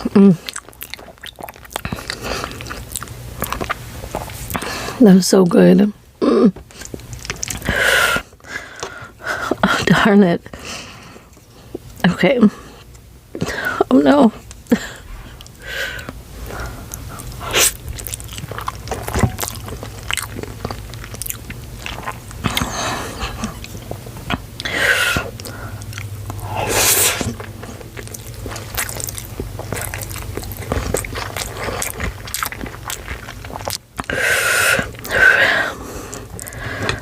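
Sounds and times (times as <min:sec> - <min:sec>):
chewing noodles: 0:00.0 - 0:05.0, 0:06.7 - 0:09.6, 0:14.4 - 0:37.0.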